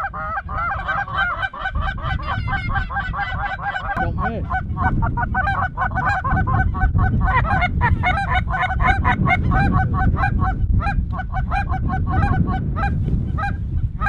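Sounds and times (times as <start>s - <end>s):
geese honking: 0.0s - 13.6s.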